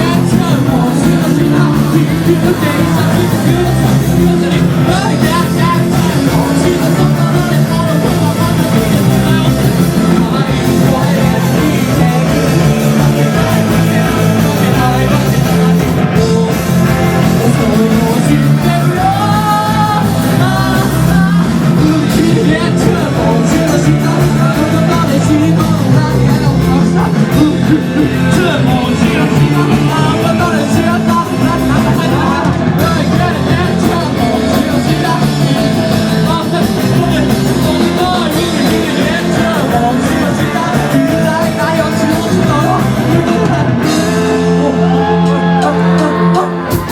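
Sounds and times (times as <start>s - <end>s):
live rock band playing: 0.0s - 46.9s
singer's vocals: 0.0s - 46.9s.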